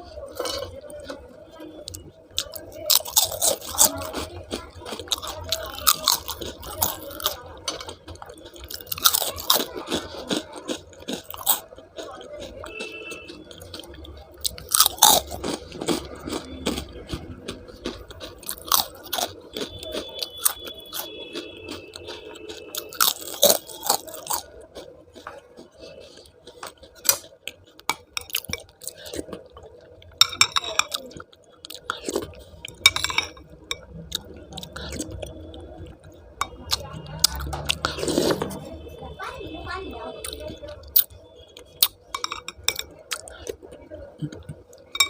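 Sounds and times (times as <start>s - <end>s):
person chewing and crunching food: 0.0s - 45.0s.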